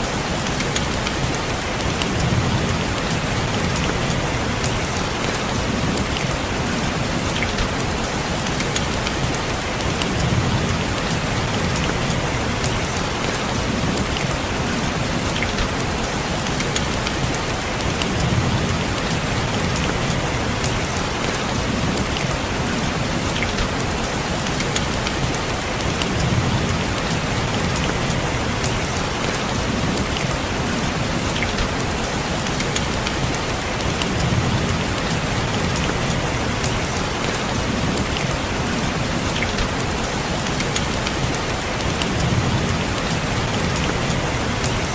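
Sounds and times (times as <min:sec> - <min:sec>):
rain on a window: 0:00.0 - 0:44.9
raindrops ticking: 0:00.0 - 0:44.9.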